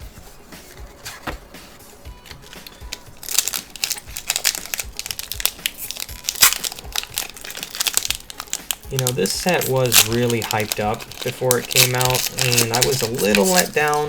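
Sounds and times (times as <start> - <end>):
foil wrapper crinkling: 0.5 - 14.0.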